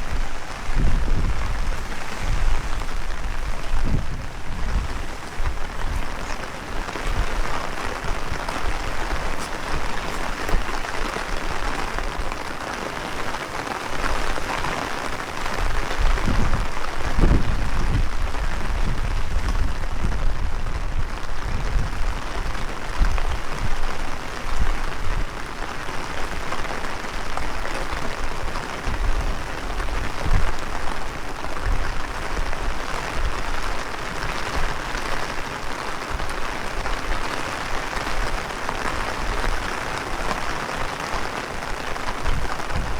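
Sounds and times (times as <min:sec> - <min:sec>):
heavy rain: 0:00.0 - 0:42.9
wind buffeting microphone: 0:00.0 - 0:42.9.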